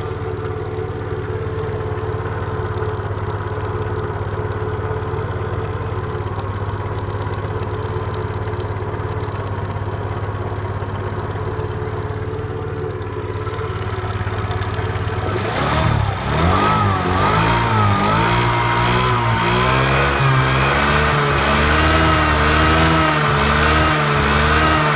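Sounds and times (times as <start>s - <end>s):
scooter engine idling and revving: 0.0s - 24.9s.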